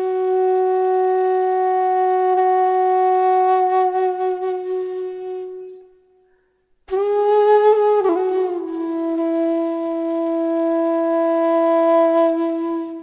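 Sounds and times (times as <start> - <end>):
flute sustained notes: 0.0 - 6.3, 6.9 - 13.0.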